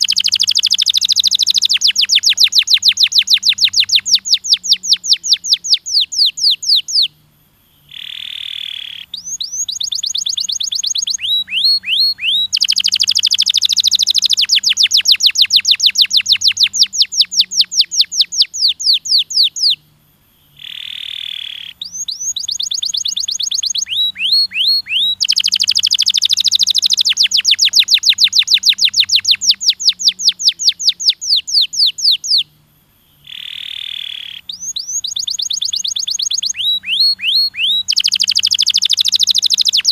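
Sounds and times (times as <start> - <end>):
canary singing rapid trills: 0.0 - 19.8, 20.4 - 39.9.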